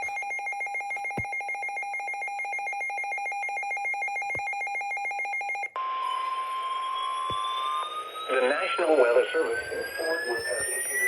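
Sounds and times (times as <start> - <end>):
weather radio alarm trill: 0.0 - 11.0.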